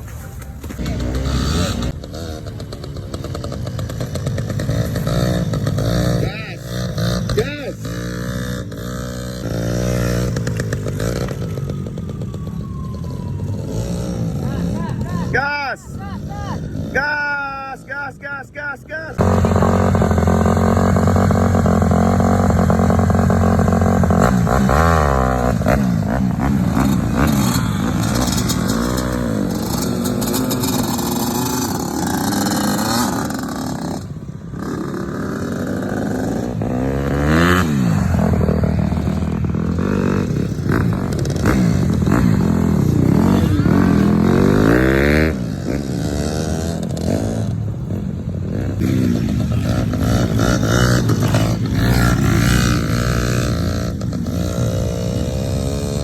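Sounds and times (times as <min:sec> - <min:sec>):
small two-stroke engine revving: 0:00.8 - 0:15.4, 0:19.2 - 0:56.0.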